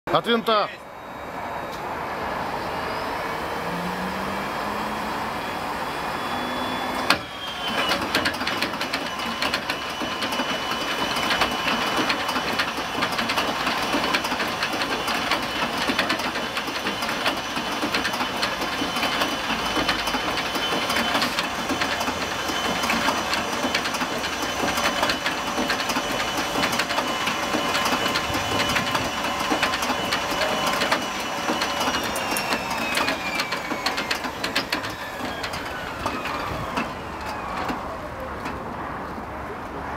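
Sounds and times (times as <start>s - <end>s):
aircraft engine cranking whine and clatter: 0.1s - 39.9s.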